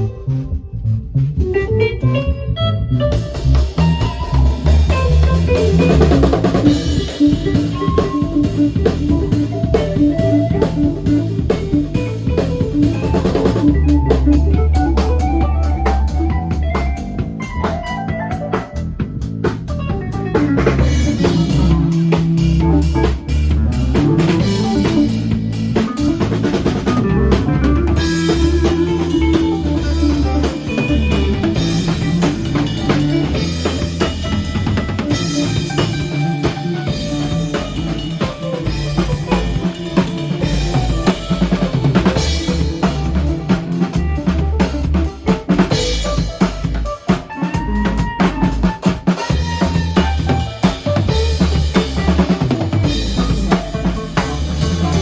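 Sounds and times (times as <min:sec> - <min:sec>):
drum kit groove: 0:00.0 - 0:55.0
guitar: 0:00.0 - 0:55.0
low bass line: 0:00.0 - 0:55.0.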